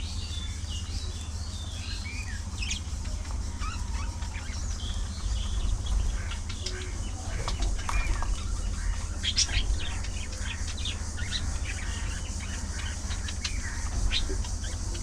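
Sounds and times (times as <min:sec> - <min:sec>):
budgerigars chirping and chattering: 0:00.0 - 0:15.0
steady low hum: 0:00.0 - 0:15.0.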